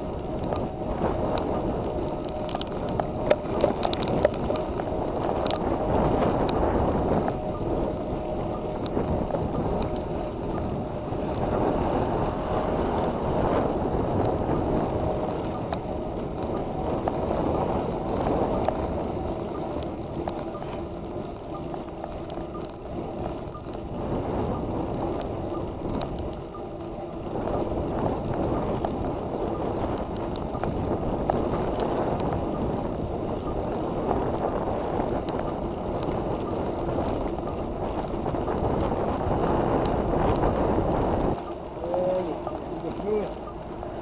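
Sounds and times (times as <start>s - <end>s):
road and tyre noise: 0.0s - 44.0s
wind on microphone: 0.0s - 44.0s.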